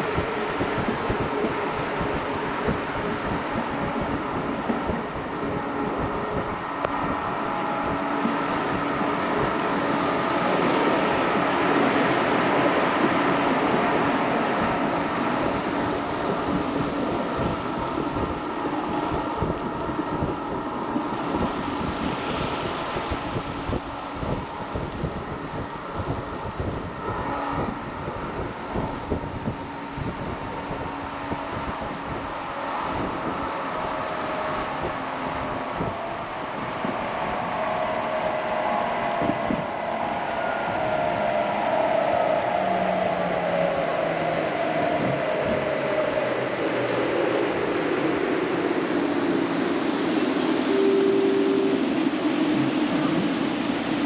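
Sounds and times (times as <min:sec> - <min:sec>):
faint whining tones: 0:00.0 - 0:54.0
train wheels rumbling on rails: 0:00.0 - 0:54.0
wind on microphone: 0:00.0 - 0:54.0.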